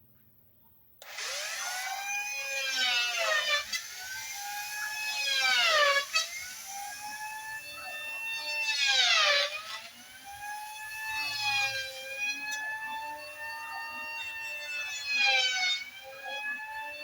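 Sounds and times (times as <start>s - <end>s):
electric planer whine: 1.0s - 17.0s.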